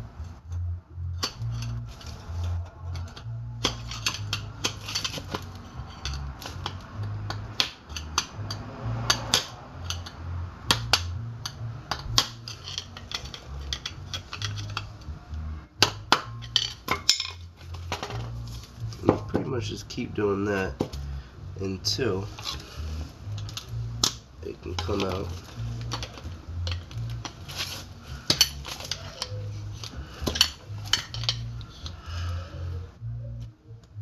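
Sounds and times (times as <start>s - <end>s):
background music with bass: 0.0s - 34.0s.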